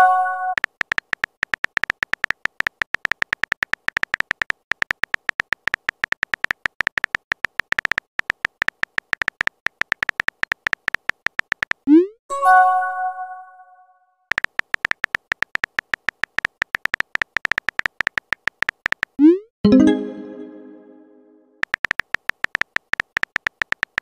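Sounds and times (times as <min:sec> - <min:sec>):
simulated keyboard typing clicks: 0:00.0 - 0:12.2, 0:14.3 - 0:20.3, 0:21.6 - 0:24.0.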